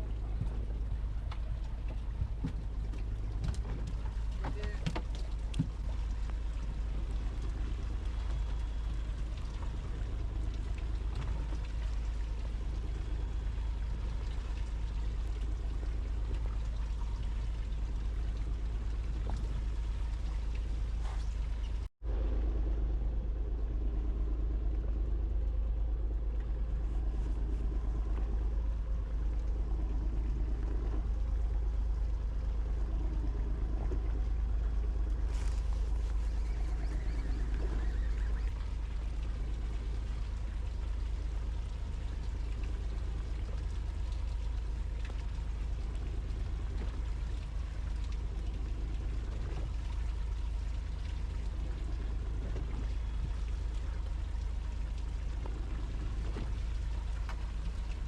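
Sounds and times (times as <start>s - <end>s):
boat engine rumbling: 0.0s - 58.0s
water noise: 0.0s - 58.0s.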